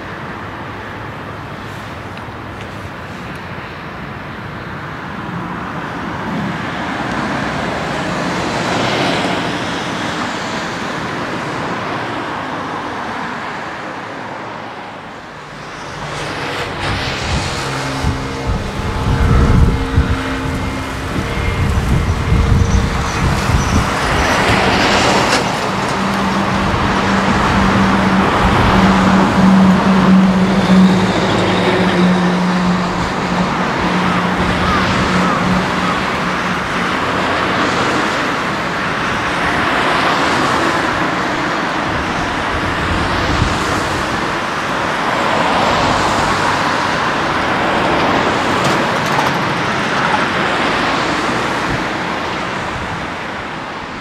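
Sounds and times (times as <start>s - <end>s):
cars passing by: 0.0s - 54.0s
traffic rushing background: 0.0s - 54.0s.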